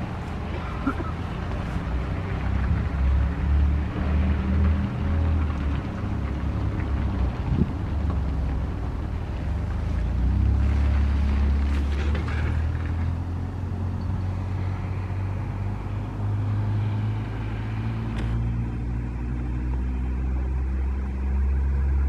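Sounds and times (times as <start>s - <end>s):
mechanical hum and rumble: 0.0s - 22.0s.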